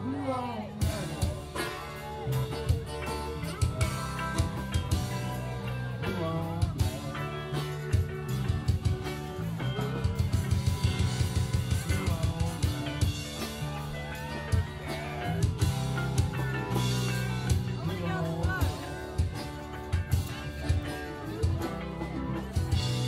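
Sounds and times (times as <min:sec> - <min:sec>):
electric guitar: 0:00.0 - 0:23.0
drum kit: 0:00.7 - 0:23.0.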